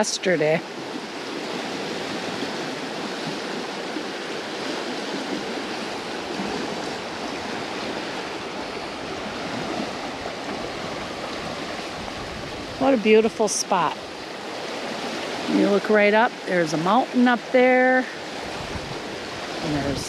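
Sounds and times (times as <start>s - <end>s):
mountain creek rushing: 0.0s - 20.0s.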